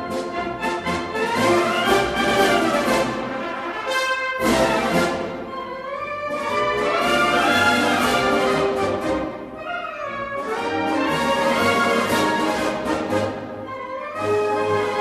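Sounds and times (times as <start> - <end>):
orchestral music with brass chords: 0.0 - 15.0.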